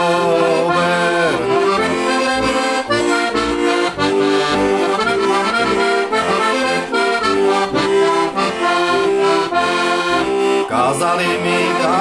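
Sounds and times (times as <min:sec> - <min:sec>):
button accordion folk melody: 0:00.0 - 0:12.0.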